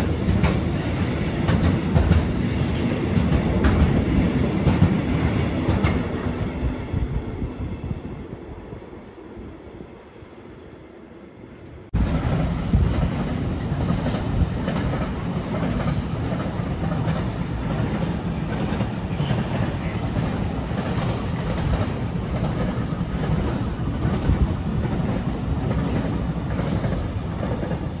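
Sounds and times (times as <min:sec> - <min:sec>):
freight train rumble: 0:00.0 - 0:28.0.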